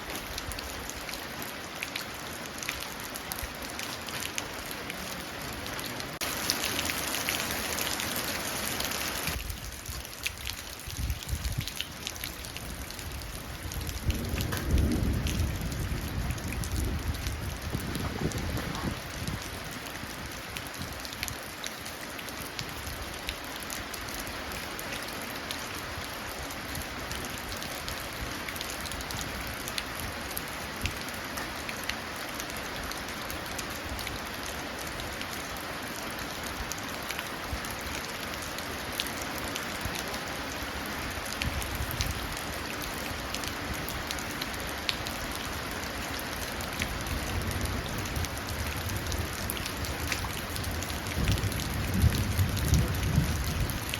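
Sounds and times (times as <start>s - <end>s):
rain falling into puddles: 0.0s - 53.9s.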